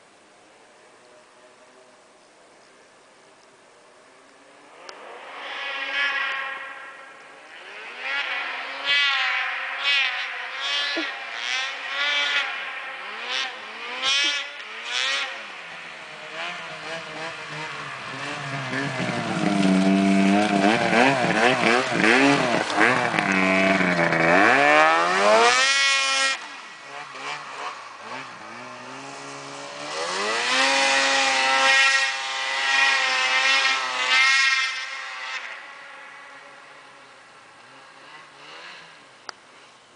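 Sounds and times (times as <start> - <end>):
snowmobile engine revving: 4.7 - 39.7.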